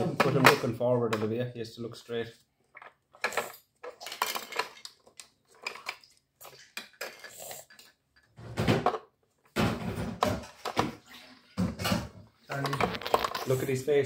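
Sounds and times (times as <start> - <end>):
plastic toy figures clicking and knocking: 0.0 - 1.5, 2.7 - 10.9, 11.6 - 13.8.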